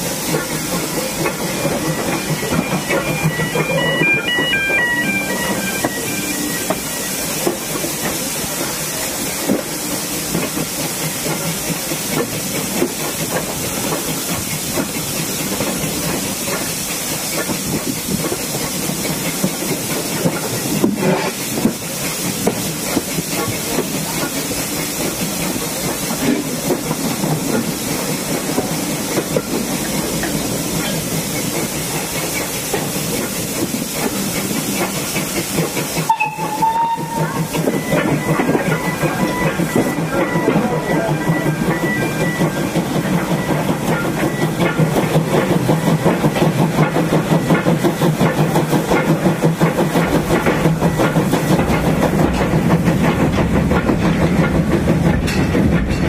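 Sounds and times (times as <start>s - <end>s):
steam hissing: 0.0s - 55.7s
train coaches running on track: 0.0s - 56.0s.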